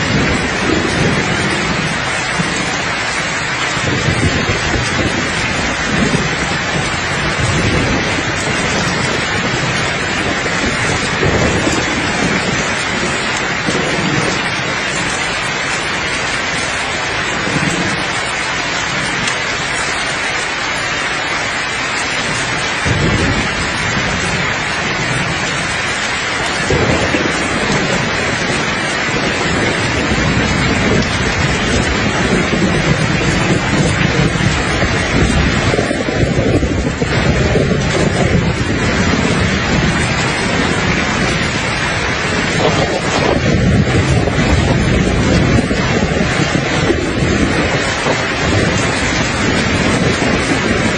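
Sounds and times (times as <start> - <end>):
heavy rain hissing: 0.0 - 50.9
low thunder rumbling: 0.0 - 50.9.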